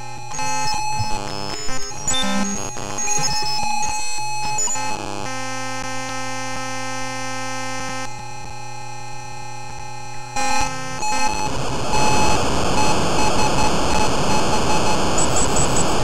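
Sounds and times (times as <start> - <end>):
buzzy chip tones: 0.0 - 16.0.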